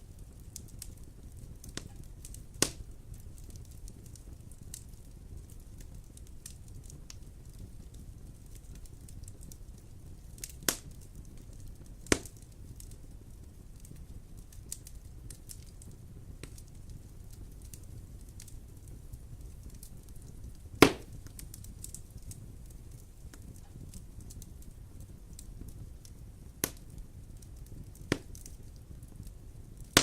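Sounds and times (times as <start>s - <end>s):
fire ticks and pops: 0.0s - 30.0s
wood fire burning: 0.0s - 30.0s.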